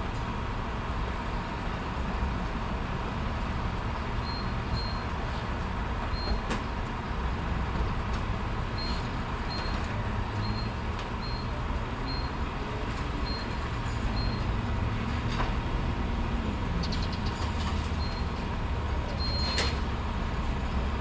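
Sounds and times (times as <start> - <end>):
vehicle engines idling: 0.0 - 21.0.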